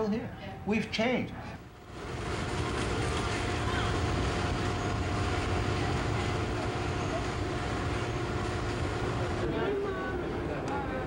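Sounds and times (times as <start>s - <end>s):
amusement park rumble: 0.0s - 11.0s
faint steady hum: 0.0s - 11.0s.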